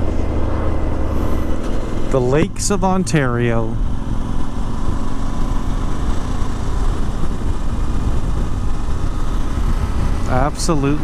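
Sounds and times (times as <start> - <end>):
motorcycle engine drone: 0.0 - 11.0
wind noise: 0.0 - 11.0.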